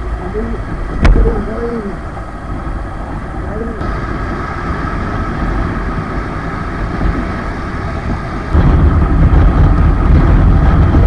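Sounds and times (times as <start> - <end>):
motorcycle engine drone: 0.0 - 11.0
road and wind noise: 0.0 - 11.0.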